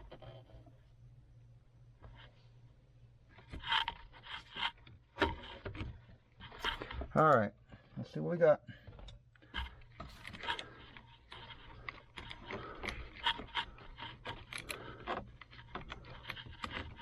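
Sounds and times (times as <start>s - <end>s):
plastic parts clicking and scraping: 0.0s - 0.8s, 3.3s - 8.0s, 8.8s - 17.0s.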